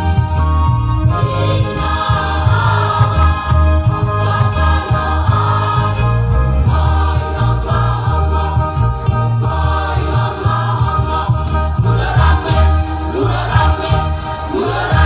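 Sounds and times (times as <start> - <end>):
amplified accompaniment with bass: 0.0 - 15.0
choir singing: 1.0 - 15.0.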